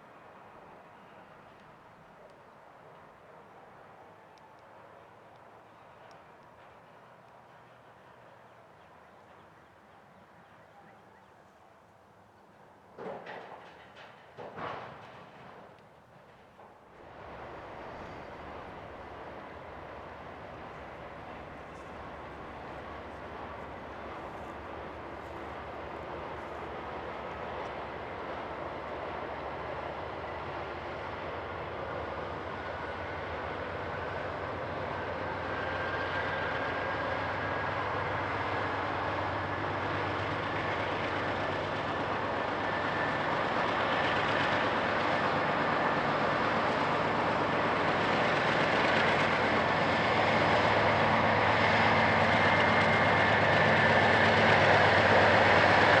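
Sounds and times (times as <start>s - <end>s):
diesel locomotive approaching: 0.0s - 56.0s.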